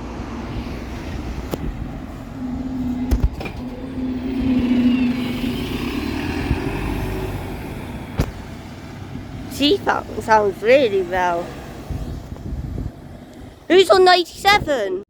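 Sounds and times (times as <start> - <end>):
diesel bus engine pulling away: 0.0 - 13.8.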